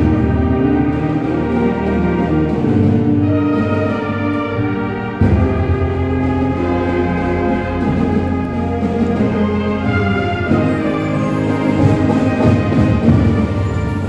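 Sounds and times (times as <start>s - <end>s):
marching band brass chords: 0.0s - 14.0s.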